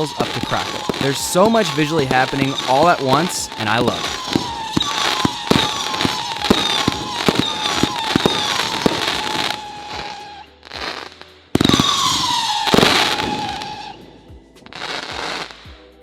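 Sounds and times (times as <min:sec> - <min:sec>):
firework crackle: 0:00.0 - 0:15.9
whistling firework tails: 0:00.0 - 0:16.0.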